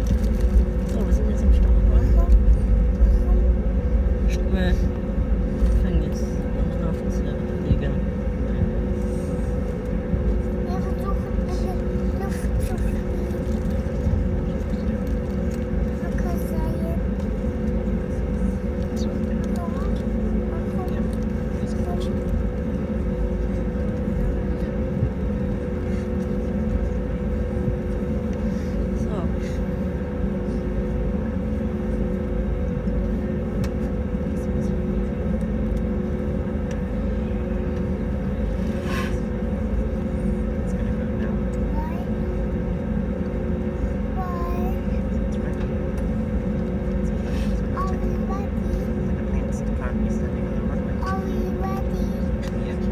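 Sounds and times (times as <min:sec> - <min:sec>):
jet engine cabin hum: 0:00.0 - 0:52.9.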